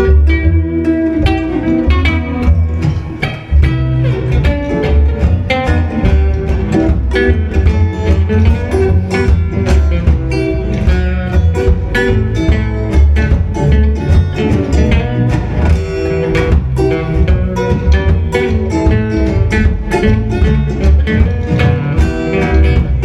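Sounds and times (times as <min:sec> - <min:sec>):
live band playing: 0:00.0 - 0:23.0
plucked strings: 0:00.0 - 0:23.0
strong steady bass: 0:00.0 - 0:23.0.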